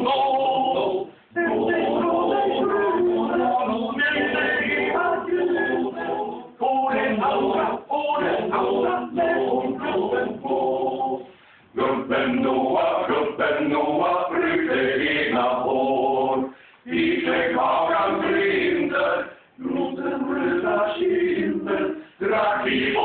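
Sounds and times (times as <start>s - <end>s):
men's chorus singing a cappella: 0.0s - 23.0s.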